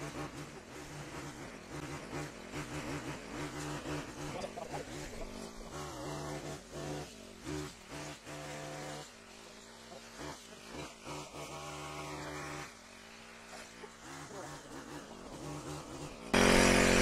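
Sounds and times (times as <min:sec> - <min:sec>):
hedge trimmer engine revving: 0:00.0 - 0:17.0.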